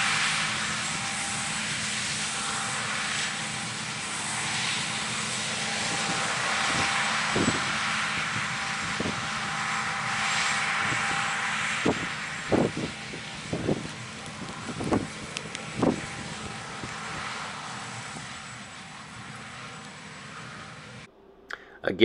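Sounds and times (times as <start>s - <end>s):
diesel engine drone: 0.0s - 22.0s
machinery whine: 0.0s - 22.0s.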